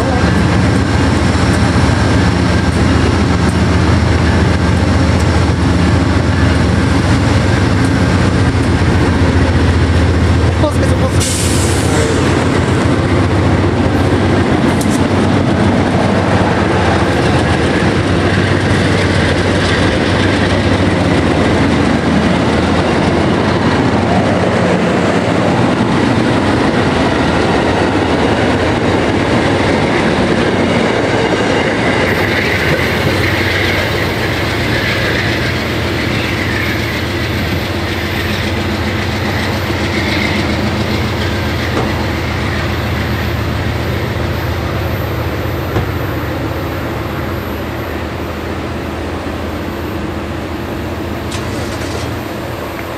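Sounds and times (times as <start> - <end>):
train wheels rumbling and clicking: 0.0 - 52.9.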